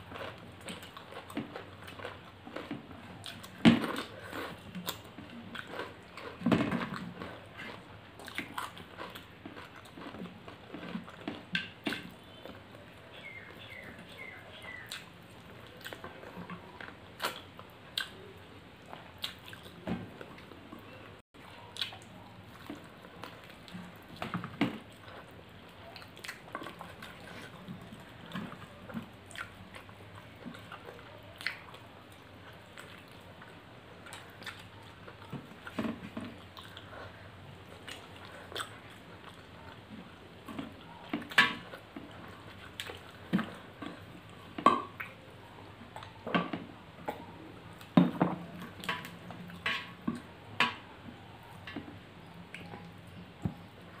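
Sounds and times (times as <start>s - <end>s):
close chewing and mouth sounds: 0.0s - 54.0s.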